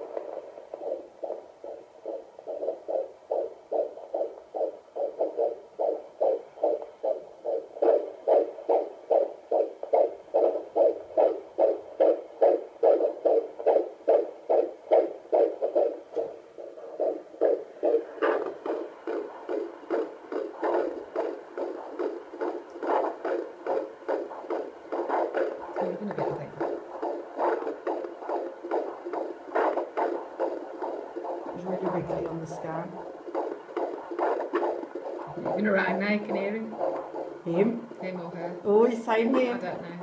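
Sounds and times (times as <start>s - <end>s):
fast fetal heartbeat pulsing: 0.0s - 40.0s.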